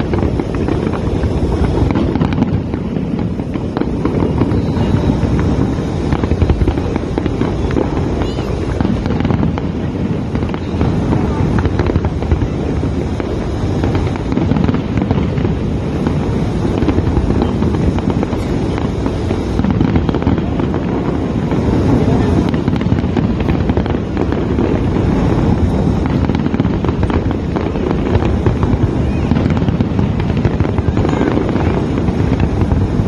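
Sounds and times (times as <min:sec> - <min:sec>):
fireworks crackling and bursting: 0:00.0 - 0:33.0.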